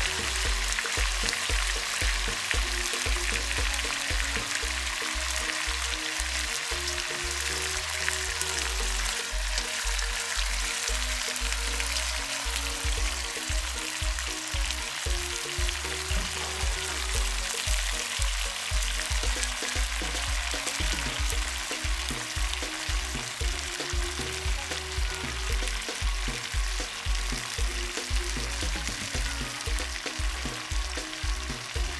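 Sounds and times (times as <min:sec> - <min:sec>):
background music with bass beat: 0:00.0 - 0:31.9
meat sizzling in a pot: 0:00.0 - 0:31.9.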